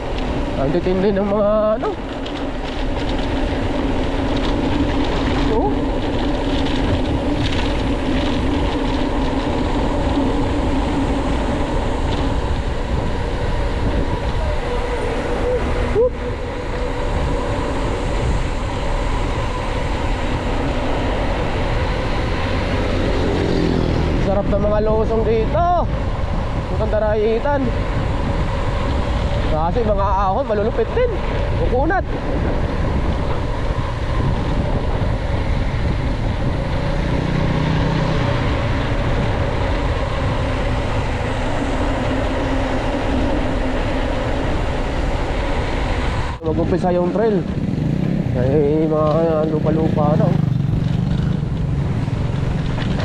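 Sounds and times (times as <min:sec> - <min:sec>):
ground and riding noise: 0:00.0 - 0:53.0
motorcycle engine running: 0:00.0 - 0:53.0
road rumble: 0:00.0 - 0:53.0
wind rushing on microphone: 0:00.0 - 0:53.0.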